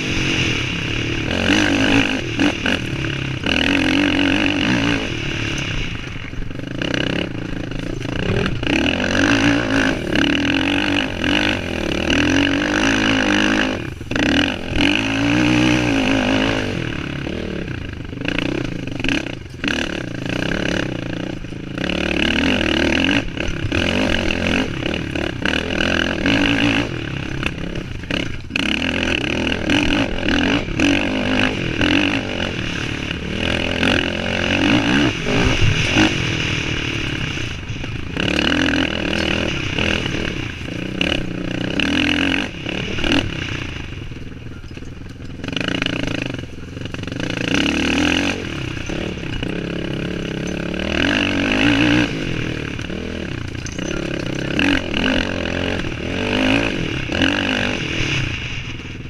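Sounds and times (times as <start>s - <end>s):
quad bike engine revving hard: 0.0s - 59.0s.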